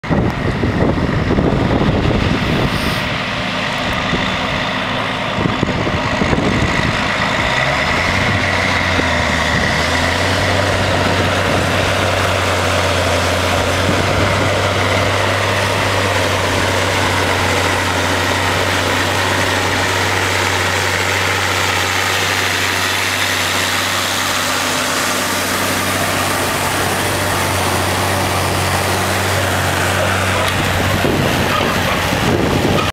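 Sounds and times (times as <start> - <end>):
tractor engine under load: 0.0 - 32.9.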